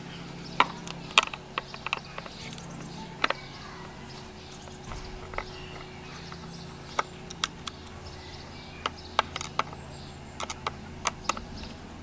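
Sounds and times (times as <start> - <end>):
steady low hum: 0.0 - 12.0
plastic parts clicking together: 0.6 - 3.9, 4.5 - 11.8.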